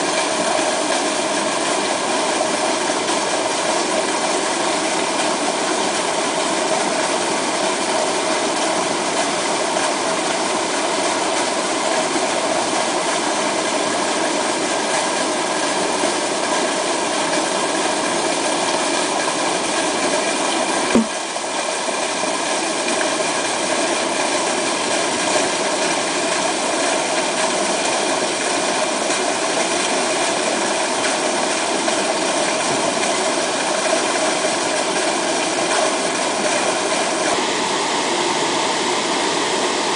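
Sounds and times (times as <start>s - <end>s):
waterfall pouring: 0.0s - 39.9s.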